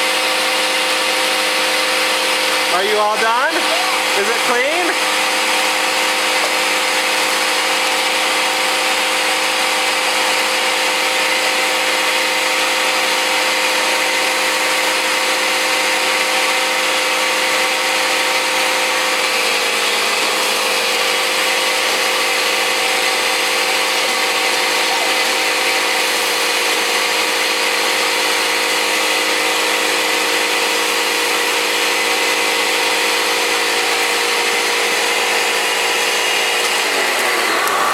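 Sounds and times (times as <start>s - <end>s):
vacuum cleaner motor whining: 0.0s - 37.9s.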